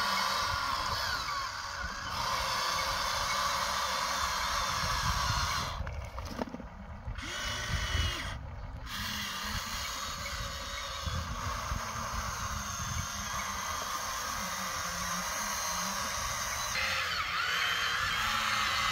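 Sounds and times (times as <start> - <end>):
toy excavator motors whining: 0.0 - 18.9.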